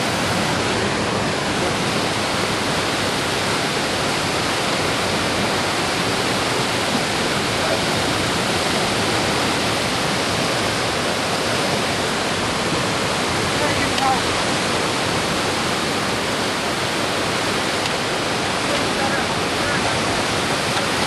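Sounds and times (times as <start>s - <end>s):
fast-flowing river water: 0.0s - 21.0s.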